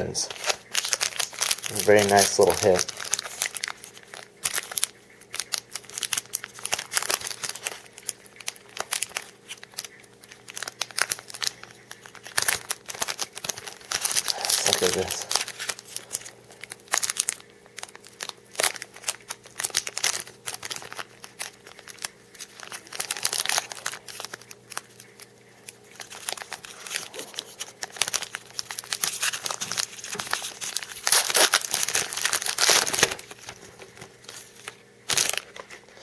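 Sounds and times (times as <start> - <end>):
cards being handled: 0.0 - 17.4, 18.2 - 36.0
wrapper tearing and crinkling: 0.0 - 36.0.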